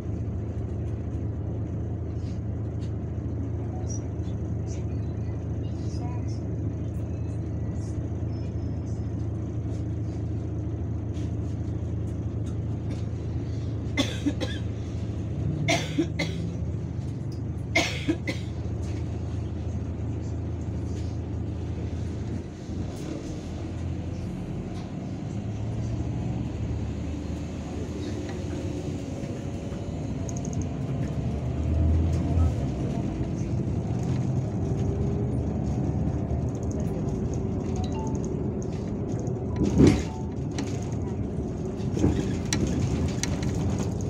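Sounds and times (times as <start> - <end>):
bus engine humming: 0.0 - 44.0.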